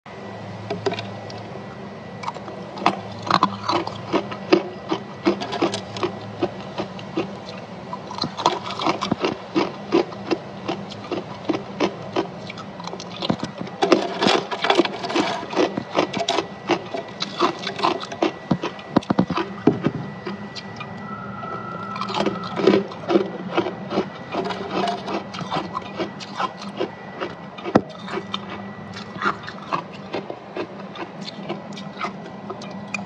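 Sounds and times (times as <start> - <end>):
person chewing frost crunching: 2.2 - 33.0.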